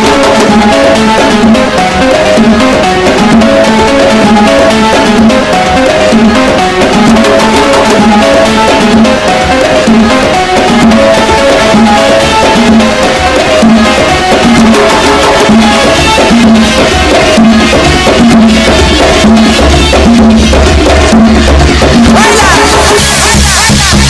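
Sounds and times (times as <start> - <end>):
music with drums and percussion: 0.0 - 24.0.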